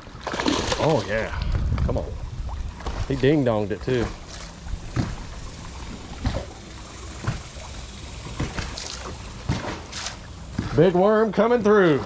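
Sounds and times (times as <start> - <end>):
sharp splashes: 0.0 - 1.3, 2.4 - 10.9
water lapping against boat hull: 0.0 - 12.0
steady low rumble: 1.0 - 12.0.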